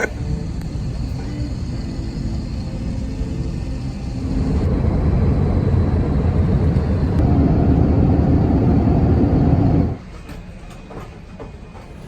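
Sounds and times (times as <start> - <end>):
jet engines rumbling in flight: 0.0 - 12.0.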